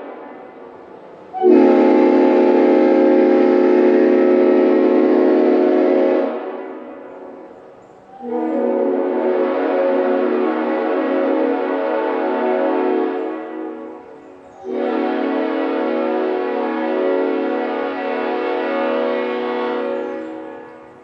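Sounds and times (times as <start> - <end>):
air horn blasts: 1.4 - 7.4, 8.2 - 21.0.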